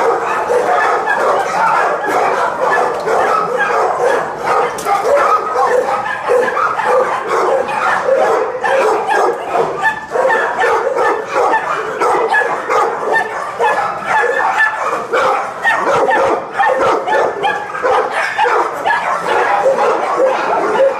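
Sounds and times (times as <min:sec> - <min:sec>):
many dogs barking and yipping: 0:00.0 - 0:20.9.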